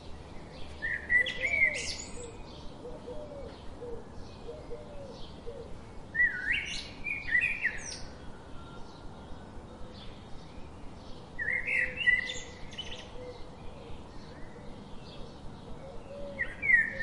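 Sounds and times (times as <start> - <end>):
faint steady hiss: 0.0 - 17.0
songbird chirps and trills: 0.0 - 17.0.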